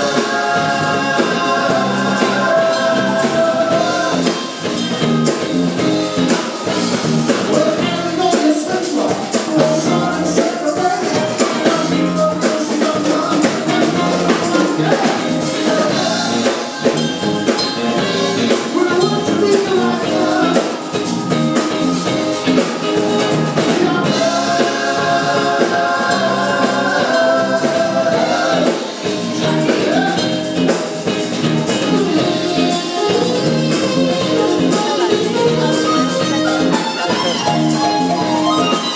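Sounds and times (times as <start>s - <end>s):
person singing: 0.0s - 4.7s, 7.3s - 16.8s, 18.4s - 21.2s, 22.6s - 30.4s, 31.7s - 38.9s
live band playing: 0.0s - 38.9s.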